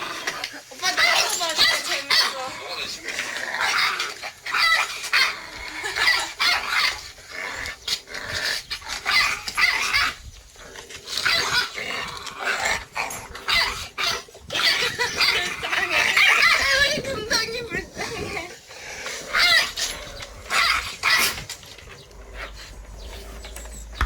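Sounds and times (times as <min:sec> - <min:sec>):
dogs growling and barking: 0:00.0 - 0:24.0.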